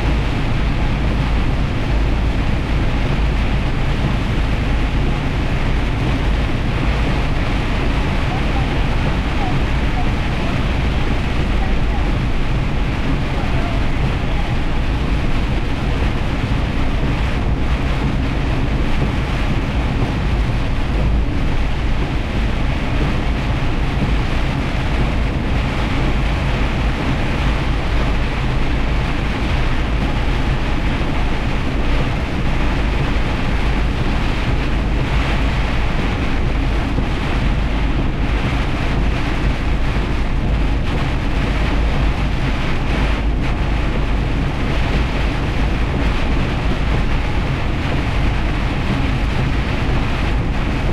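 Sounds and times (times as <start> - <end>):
truck engine and road drone: 0.0 - 50.9.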